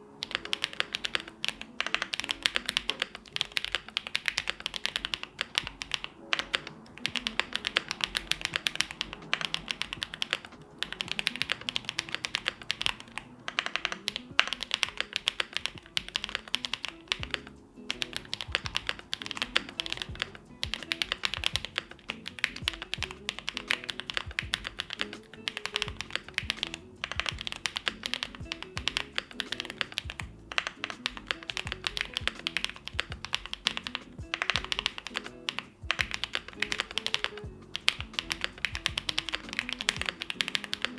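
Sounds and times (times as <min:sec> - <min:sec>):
mechanical keyboard typing: 0:00.0 - 0:40.9
soft background music: 0:00.0 - 0:40.9.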